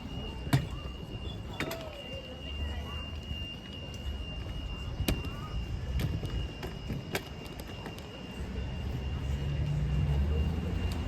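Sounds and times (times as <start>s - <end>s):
steady high-pitched tone: 0.0s - 11.0s
vehicle engine rumbling: 0.0s - 11.0s.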